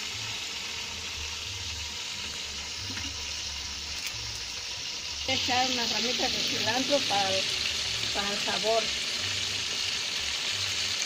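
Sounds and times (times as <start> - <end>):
chicken frying in hot oil: 0.0 - 11.0.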